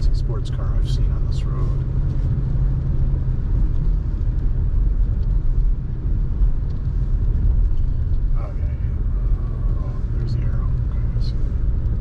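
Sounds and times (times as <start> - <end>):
engine and tyres rumbling in car: 0.0 - 12.0.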